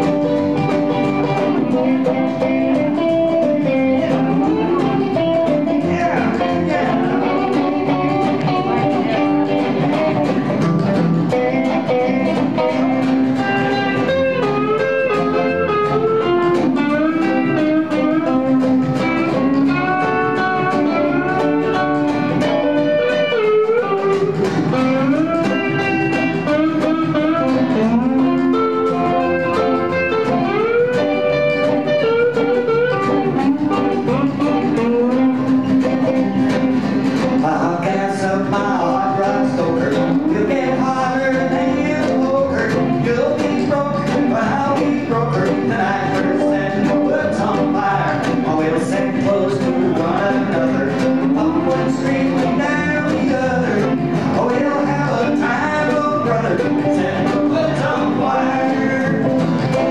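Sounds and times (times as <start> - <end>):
live country band playing: 0.0 - 59.9
sliding guitar lead line: 0.0 - 59.9.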